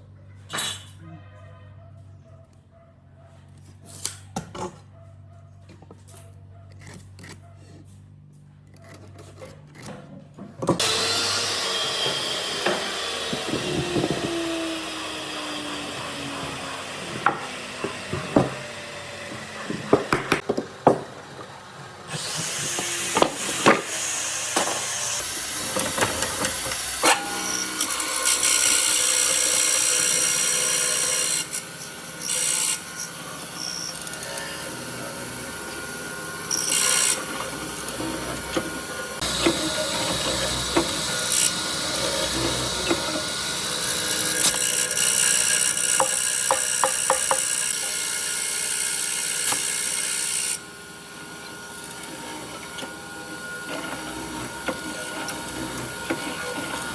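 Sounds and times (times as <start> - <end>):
power tool cutting wood: 10.6 - 56.9.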